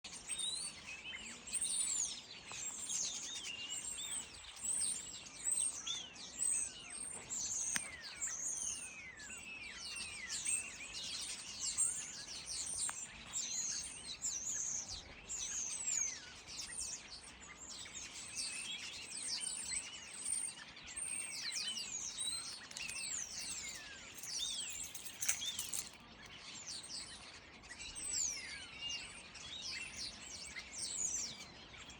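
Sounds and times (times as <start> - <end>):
starlings chattering and whistling: 0.0 - 31.9.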